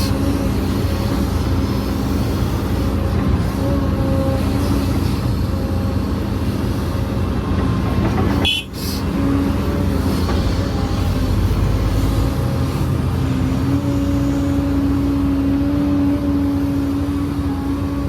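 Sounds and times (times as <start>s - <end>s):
diesel construction machinery rumbling: 0.0s - 18.0s.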